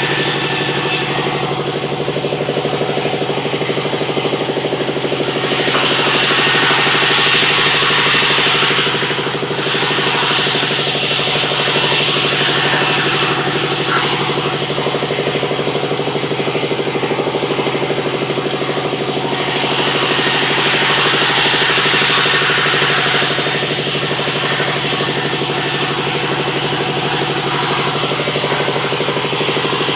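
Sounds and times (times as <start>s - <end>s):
sawmill engine drone: 0.0s - 29.9s
machinery high hiss: 5.2s - 29.9s.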